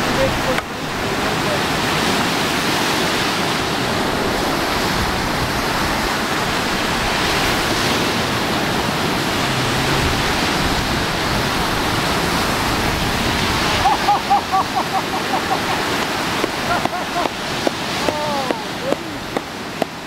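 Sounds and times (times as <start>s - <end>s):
waves breaking: 0.0s - 20.0s
wind buffeting microphone: 0.0s - 20.0s
wind roaring: 0.0s - 20.0s.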